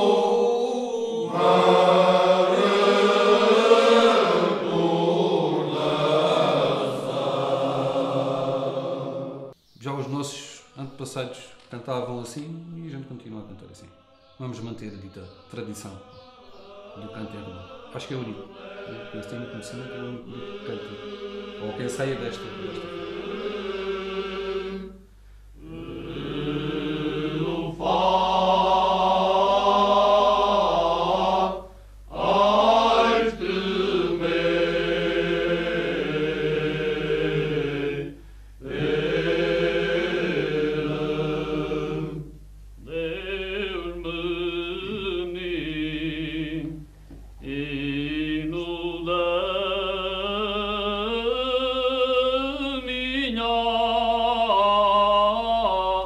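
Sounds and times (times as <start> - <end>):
male choir singing: 0.0 - 9.6, 13.6 - 25.0, 25.6 - 46.8, 47.4 - 56.0.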